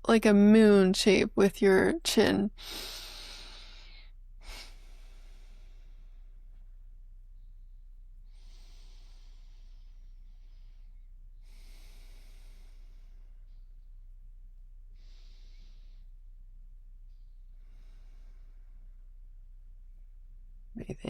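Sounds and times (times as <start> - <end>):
steady low hum: 0.0 - 21.0
woman breathing slowly: 2.6 - 19.7.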